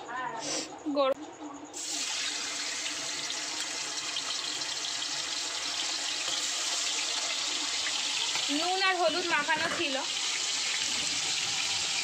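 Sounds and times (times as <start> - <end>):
prawns sizzling in hot oil: 1.8 - 12.0.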